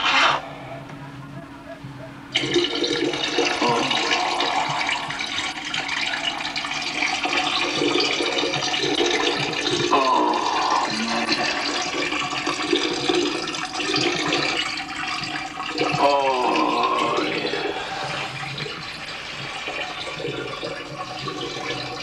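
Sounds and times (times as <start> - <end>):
person urinating into toilet: 2.3 - 22.0.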